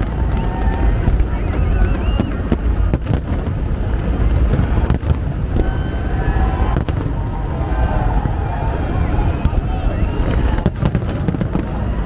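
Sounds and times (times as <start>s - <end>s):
fireworks barrage rumble: 0.0s - 12.0s
loud firework bangs: 0.0s - 12.0s.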